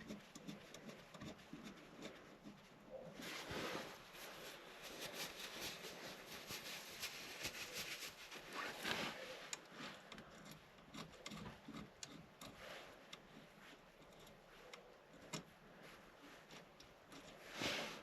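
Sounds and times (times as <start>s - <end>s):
small parts clicking and rubbing: 0.0s - 18.0s.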